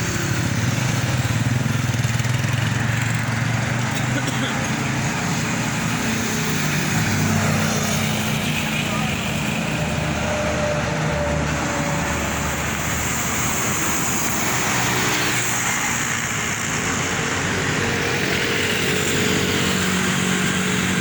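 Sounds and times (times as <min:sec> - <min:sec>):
traffic rushing: 0:00.0 - 0:21.0.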